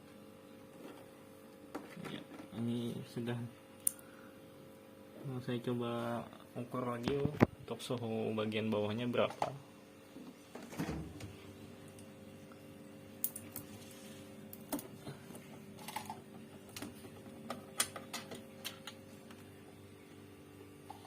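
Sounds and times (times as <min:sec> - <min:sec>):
refrigerator humming: 0:00.0 - 0:21.0.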